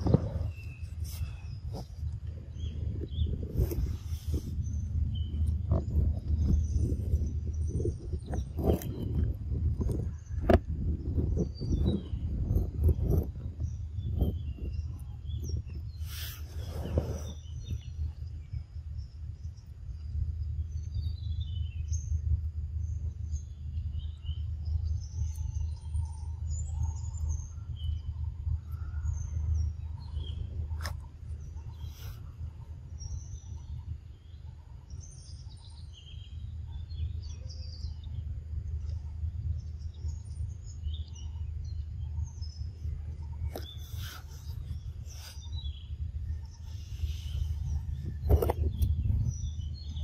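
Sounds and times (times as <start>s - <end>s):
steady low rumble: 0.0s - 50.0s
wild birds chirping: 0.0s - 50.0s.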